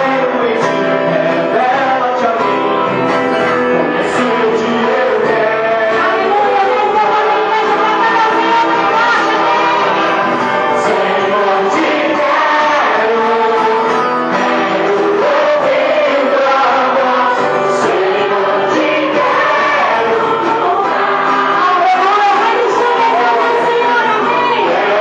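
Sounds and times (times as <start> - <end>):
voices singing together: 0.0 - 2.8, 3.5 - 25.0
gospel band playing: 0.0 - 25.0.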